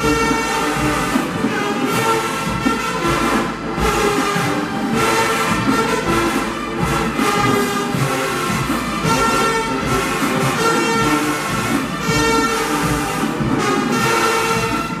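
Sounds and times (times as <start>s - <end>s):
brass section playing chords: 0.0s - 15.0s
marching drums: 0.0s - 15.0s.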